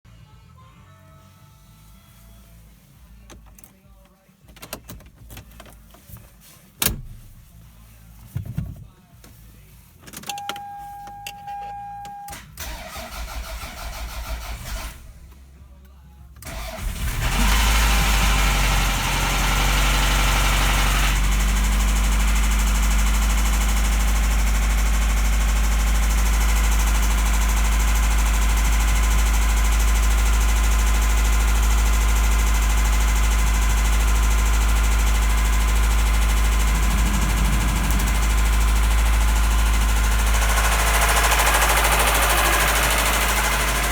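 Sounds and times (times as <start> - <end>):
car engine cranking and running: 3.1 - 8.5, 9.2 - 43.9.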